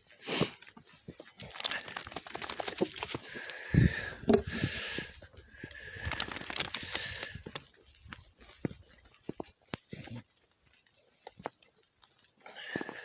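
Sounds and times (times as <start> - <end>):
dry leaves crackling underfoot: 0.2 - 13.0.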